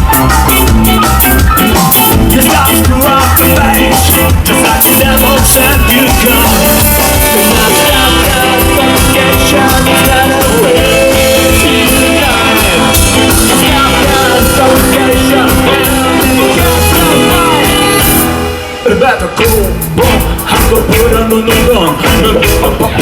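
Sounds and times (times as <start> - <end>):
ska band playing live: 0.0 - 23.0.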